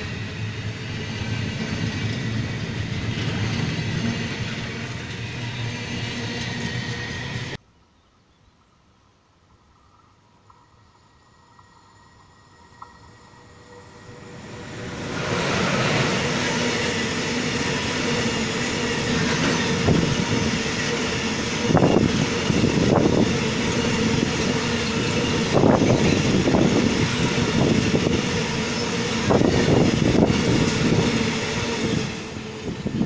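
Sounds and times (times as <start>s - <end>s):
train wheels rumbling on rail: 0.0s - 7.6s, 9.9s - 33.0s.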